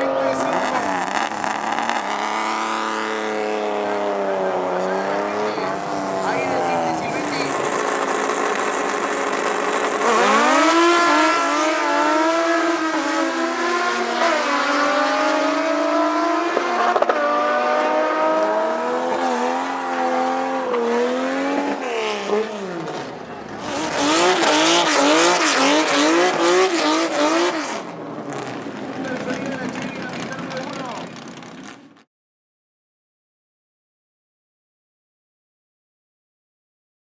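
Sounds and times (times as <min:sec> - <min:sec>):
engine revving in quick blips: 0:00.0 - 0:32.0
race car engine accelerating: 0:00.0 - 0:32.0.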